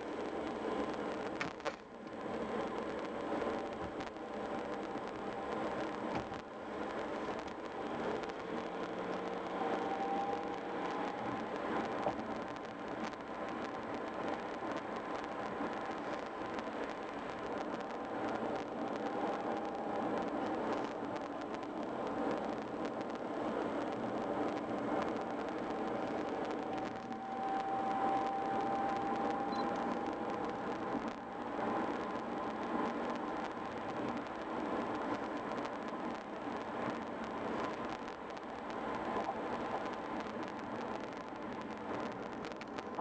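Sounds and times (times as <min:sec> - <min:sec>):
engine hum: 0:00.0 - 0:43.0
faint whine: 0:00.0 - 0:43.0
tyre and road noise: 0:00.0 - 0:43.0.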